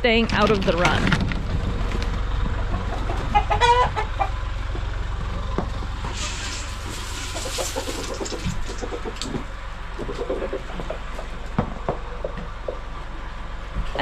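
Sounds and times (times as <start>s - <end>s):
low hum: 0.0s - 14.0s
chickens clucking: 0.4s - 14.0s.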